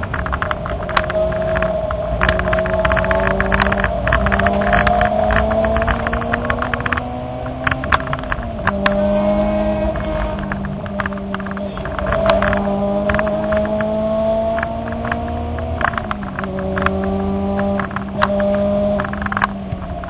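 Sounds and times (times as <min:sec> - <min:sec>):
car engine accelerating: 0:00.0 - 0:20.0
sharp clicks and rattles: 0:00.0 - 0:20.0.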